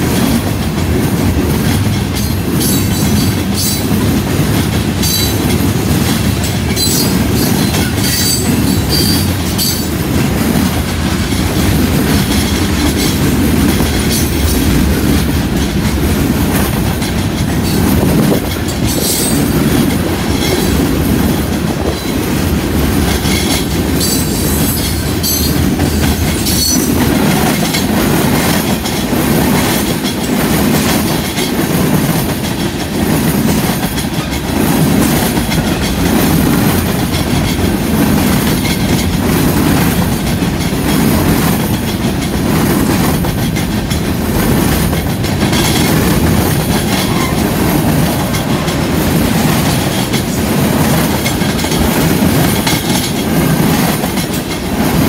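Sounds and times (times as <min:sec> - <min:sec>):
train wheels clickety-clack on rails: 0:00.0 - 0:55.0.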